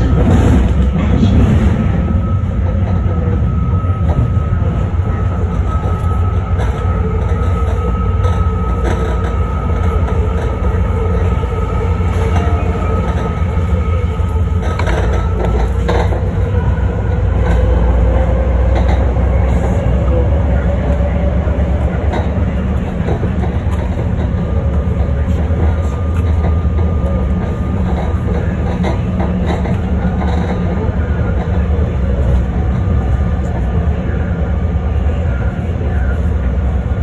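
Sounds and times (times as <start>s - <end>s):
high-pitched train whine: 0.0s - 37.0s
train wheels rumbling on rail: 0.0s - 37.0s.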